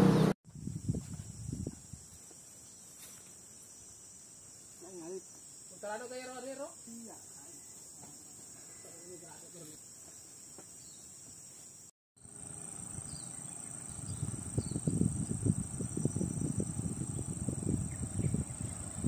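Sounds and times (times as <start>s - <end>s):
high-pitched insect drone: 0.5s - 19.0s.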